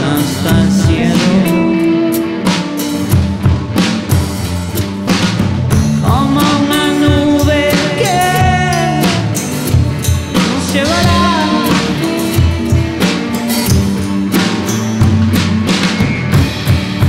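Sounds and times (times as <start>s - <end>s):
rock band playing: 0.0s - 17.0s
sliding electric guitar melody: 0.0s - 17.0s.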